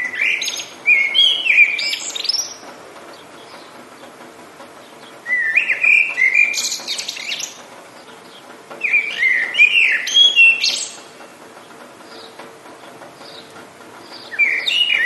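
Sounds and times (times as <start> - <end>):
songbird whistling and buzzing: 0.0 - 4.2, 4.8 - 15.0.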